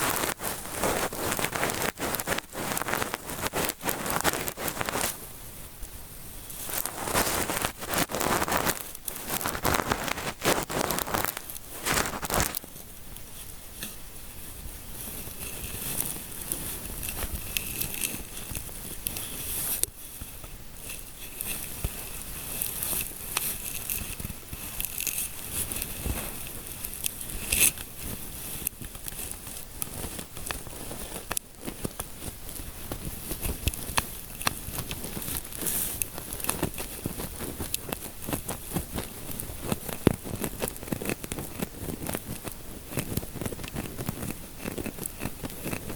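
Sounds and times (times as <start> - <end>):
fingertips scratching through hair: 0.0 - 5.2, 6.4 - 45.9.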